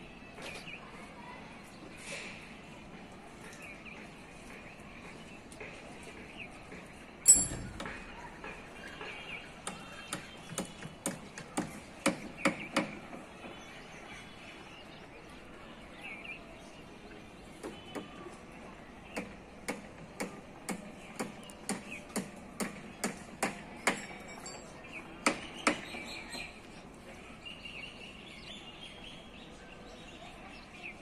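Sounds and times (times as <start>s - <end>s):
birds chirping: 3.4s - 20.1s, 20.8s - 31.0s.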